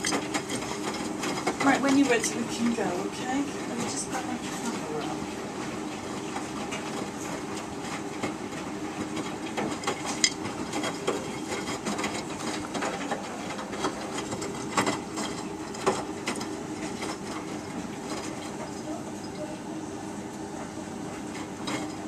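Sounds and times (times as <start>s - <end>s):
washing machine drum tumbling: 0.0s - 22.0s.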